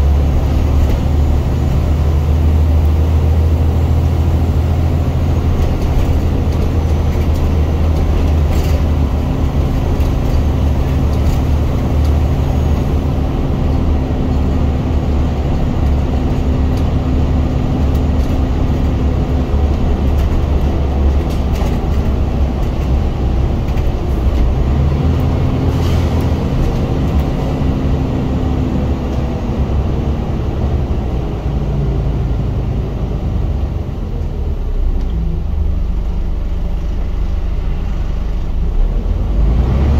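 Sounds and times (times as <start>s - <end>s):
bus diesel engine revving: 0.0s - 39.9s.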